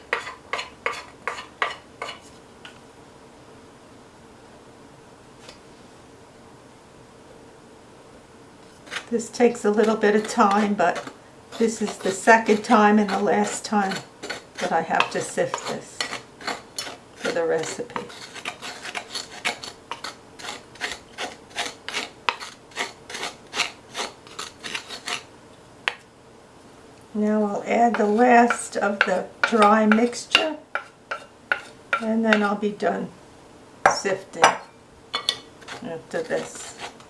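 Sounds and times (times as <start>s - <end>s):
faint steady hiss: 0.0s - 37.0s.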